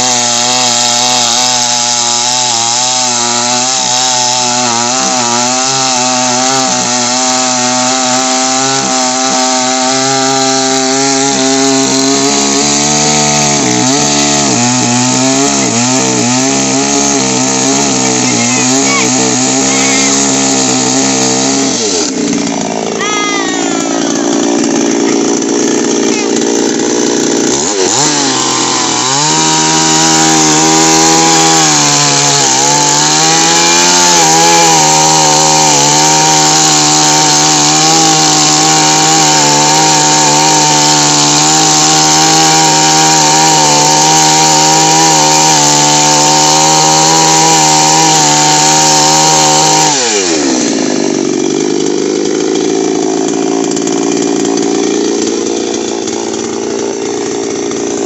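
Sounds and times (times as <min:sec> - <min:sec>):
chainsaw cutting wood: 0:00.0 - 0:58.0
chainsaw running: 0:00.0 - 0:58.0.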